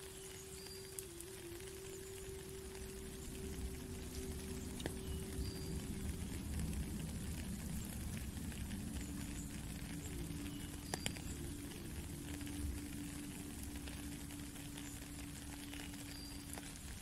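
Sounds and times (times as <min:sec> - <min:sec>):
faint steady low tone: 0:00.0 - 0:17.0
rain pattering on a puddle: 0:00.0 - 0:17.0.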